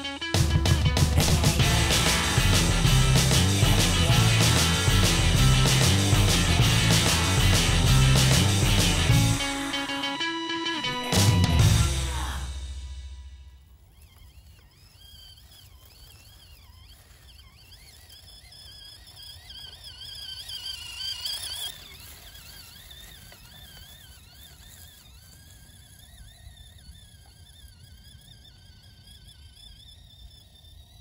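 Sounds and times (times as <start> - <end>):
electric motor and gears whining: 0.0 - 31.0.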